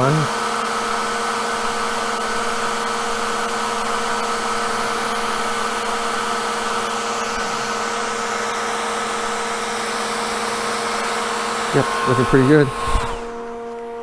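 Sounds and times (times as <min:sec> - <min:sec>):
hair dryer blowing: 0:00.0 - 0:14.0
machine hum: 0:00.0 - 0:14.0.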